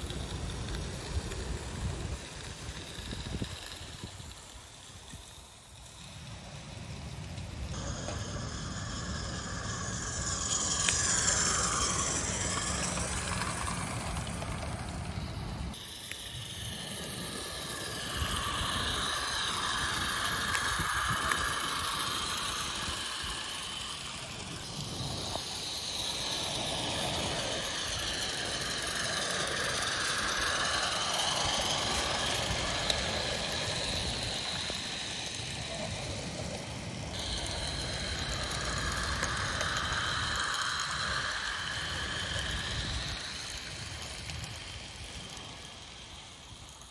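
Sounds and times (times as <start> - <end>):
train wheels rattling over rails: 0.0 - 46.9.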